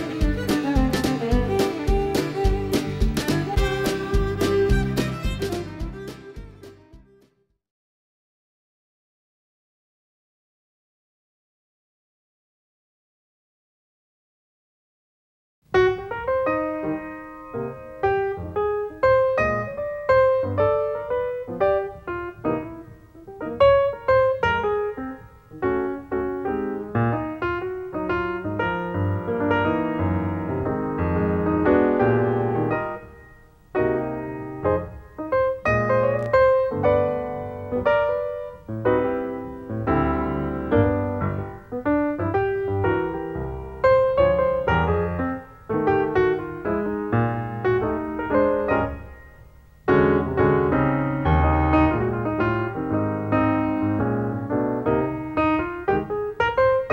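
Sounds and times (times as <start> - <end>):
solo piano music: 0.0 - 7.2, 15.7 - 56.9.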